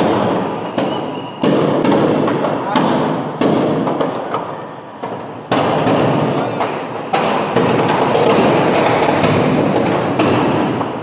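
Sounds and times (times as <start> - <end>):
firecrackers crackling and banging: 0.0 - 11.0.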